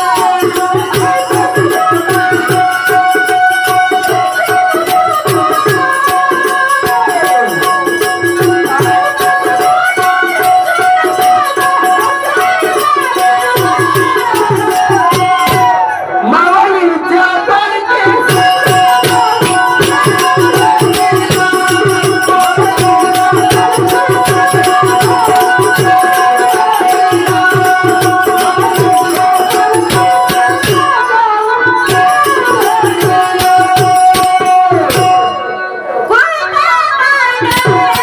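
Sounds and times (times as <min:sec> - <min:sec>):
fast hand drum rhythm: 0:00.0 - 0:15.9, 0:18.0 - 0:35.4, 0:37.4 - 0:38.0.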